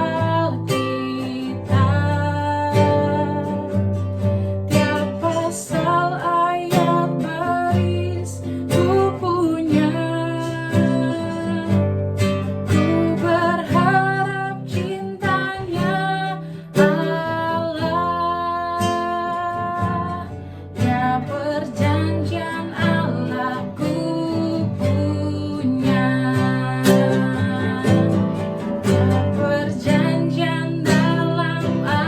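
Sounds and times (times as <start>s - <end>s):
acoustic guitar strumming: 0.0s - 32.0s
person singing: 0.0s - 32.0s.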